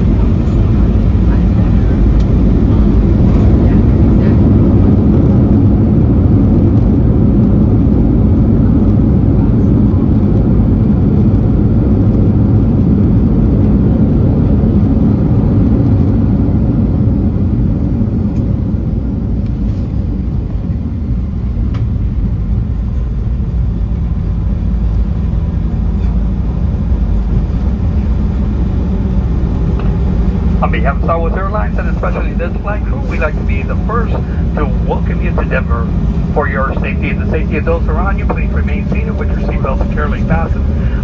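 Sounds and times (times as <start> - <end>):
aircraft cabin engine rumble: 0.0 - 41.0.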